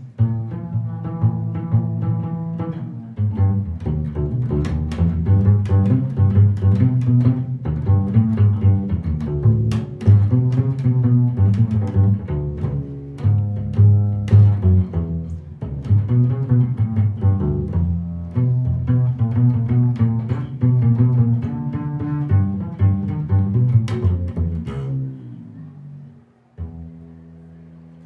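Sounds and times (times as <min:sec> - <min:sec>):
double bass plucked notes: 0:00.0 - 0:28.0.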